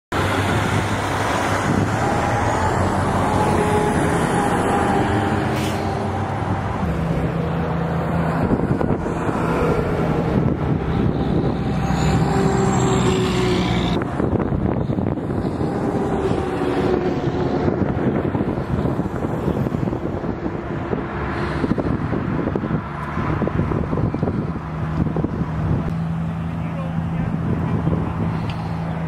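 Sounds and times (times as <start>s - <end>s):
diesel truck engines running: 0.1s - 29.0s.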